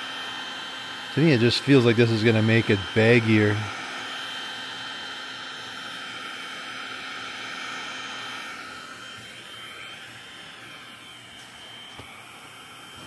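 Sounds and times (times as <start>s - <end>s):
heat gun blowing hiss: 0.0s - 13.0s.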